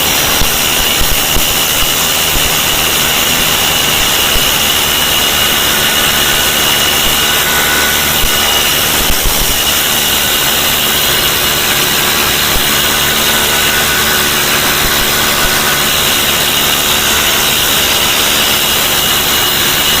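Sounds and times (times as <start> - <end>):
power tool whining: 0.0 - 20.0.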